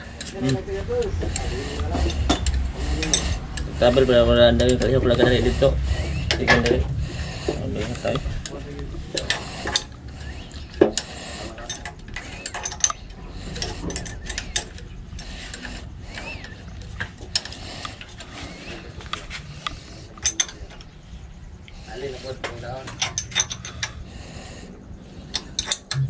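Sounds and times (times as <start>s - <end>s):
metal tools clinking: 0.0s - 5.7s, 7.7s - 21.0s, 22.0s - 24.1s, 25.2s - 26.0s.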